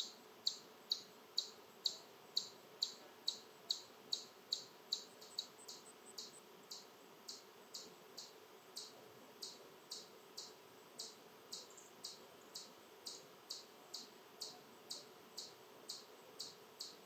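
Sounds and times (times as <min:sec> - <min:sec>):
small animal chip calls: 0:00.0 - 0:17.0.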